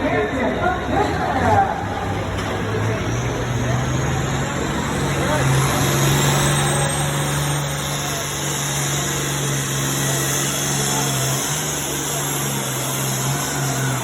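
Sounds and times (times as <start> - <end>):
truck engine droning: 0.0 - 14.0.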